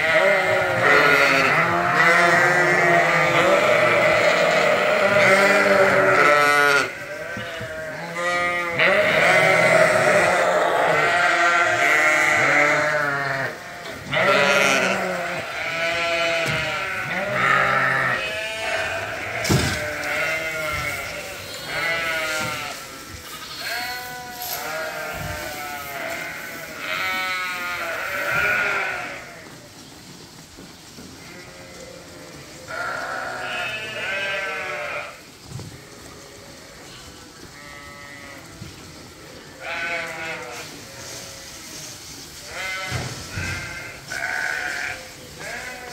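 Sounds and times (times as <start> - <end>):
sheep bleating: 0.0 - 29.6, 31.2 - 35.3, 35.9 - 38.6, 39.5 - 41.8, 42.4 - 45.9.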